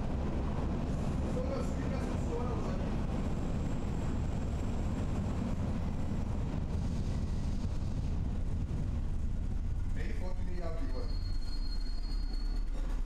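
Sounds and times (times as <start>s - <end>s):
train rumbling along: 0.0s - 13.0s.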